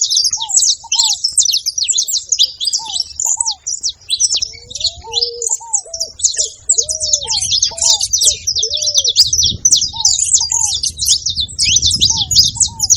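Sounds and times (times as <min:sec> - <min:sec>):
finch high chirps: 0:00.0 - 0:12.9.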